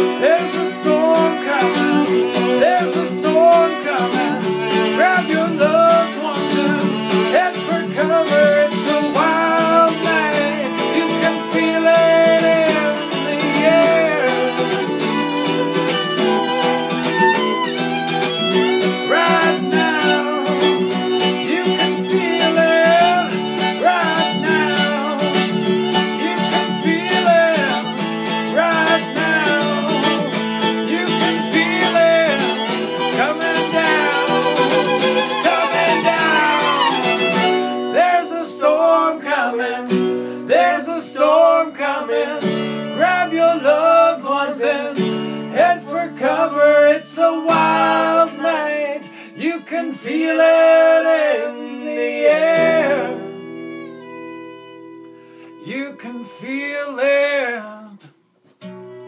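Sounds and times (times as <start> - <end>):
fiddle playing sliding melody: 0.0 - 57.2
strummed acoustic guitar: 0.0 - 57.7, 58.5 - 59.0.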